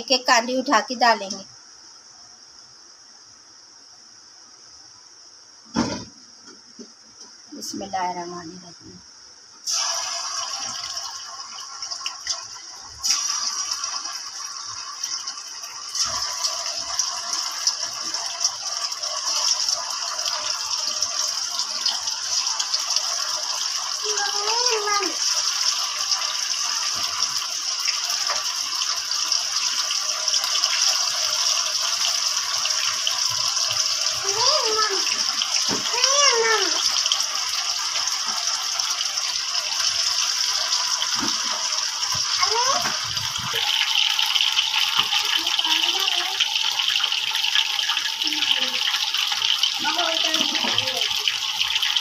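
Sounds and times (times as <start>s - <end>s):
chicken deep-frying in hot oil: 0.0s - 8.5s, 9.6s - 52.0s.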